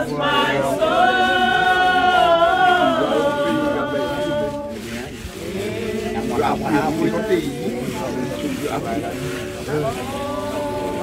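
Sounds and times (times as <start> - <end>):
group singing unaccompanied: 0.0 - 11.0.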